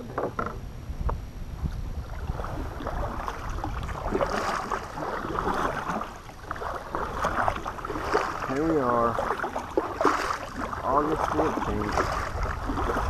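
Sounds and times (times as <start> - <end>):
wind rumbling on microphone: 0.0 - 13.0
paddle strokes splashing in water: 1.6 - 13.0.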